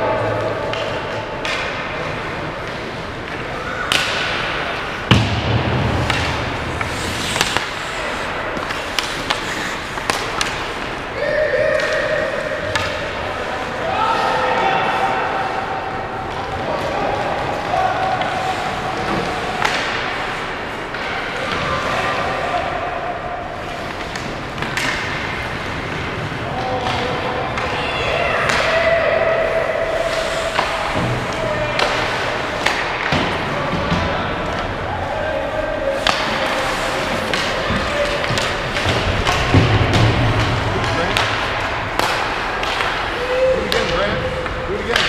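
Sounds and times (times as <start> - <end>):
stick and puck clacks: 0.2 - 13.9, 16.2 - 21.8, 23.6 - 28.9, 30.0 - 35.0, 35.8 - 45.0
skates scraping on ice: 0.2 - 22.6, 23.6 - 45.0.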